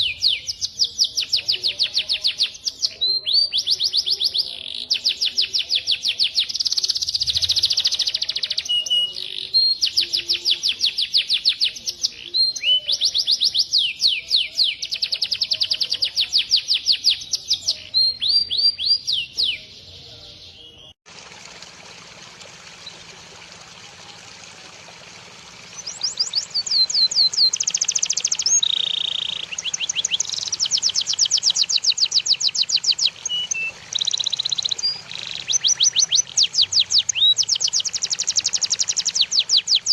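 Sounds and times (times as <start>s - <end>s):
songbird singing: 0.0s - 21.0s, 22.5s - 39.9s.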